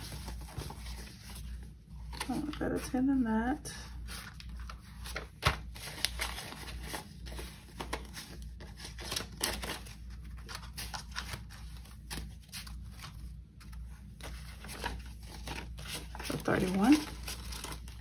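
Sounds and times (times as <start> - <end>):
banknotes rustling: 0.0 - 3.2, 3.9 - 18.0.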